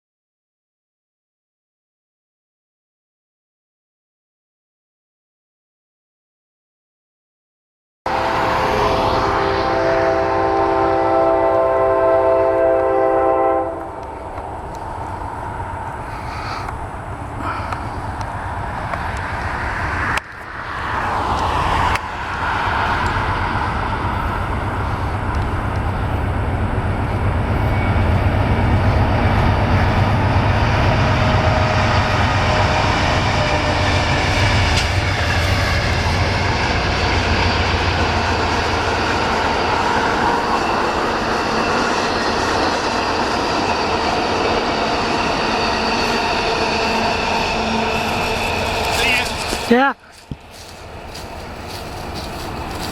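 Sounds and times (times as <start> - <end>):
train rumbling past: 8.1 - 52.9.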